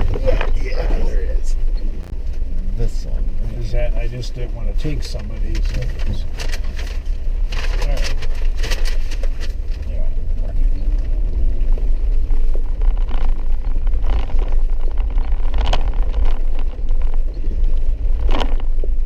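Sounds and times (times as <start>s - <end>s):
vehicle cabin rumble: 0.0s - 19.0s.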